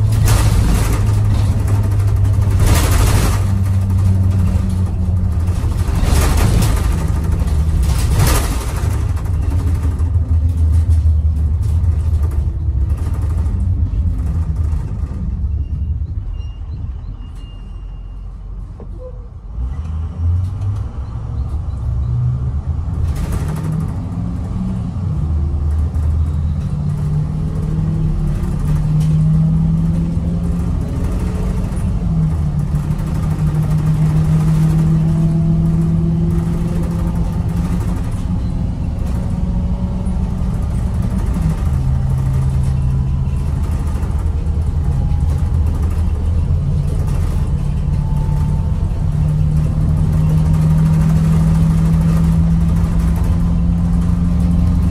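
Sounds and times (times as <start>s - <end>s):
bus diesel engine droning: 0.0s - 54.9s.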